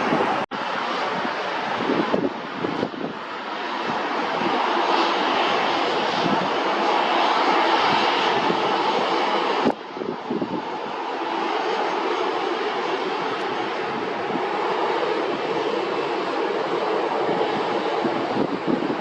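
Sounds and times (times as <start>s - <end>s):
jet engines of passing airliner: 0.0s - 19.0s.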